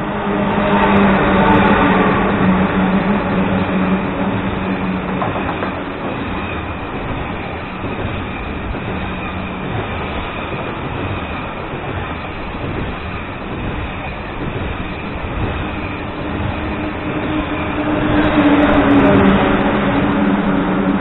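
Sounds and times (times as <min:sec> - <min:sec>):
train wheel and rail noise: 0:00.0 - 0:21.0.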